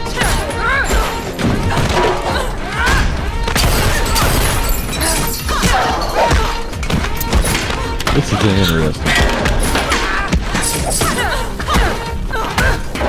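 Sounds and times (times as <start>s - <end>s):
driving action music: 0.0s - 13.0s.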